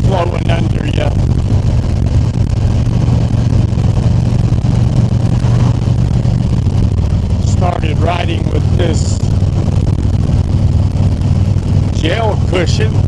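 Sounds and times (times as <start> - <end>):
motorcycle engine cruising: 0.0 - 13.0
wind and road noise: 0.0 - 13.0.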